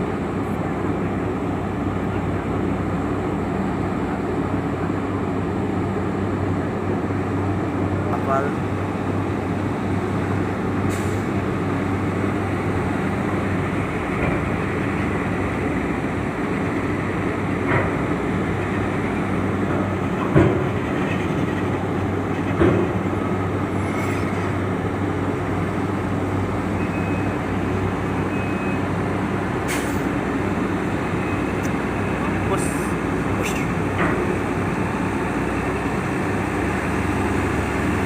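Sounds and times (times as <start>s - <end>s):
diesel engines droning: 0.0s - 38.0s.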